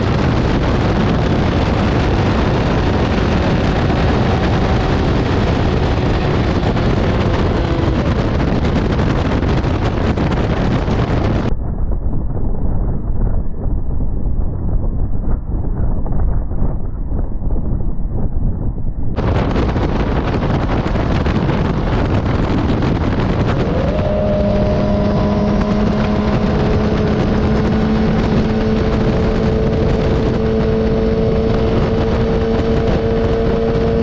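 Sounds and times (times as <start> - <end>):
motorcycle engine at speed: 0.0 - 11.5, 13.2 - 34.0
rushing wind: 0.0 - 34.0.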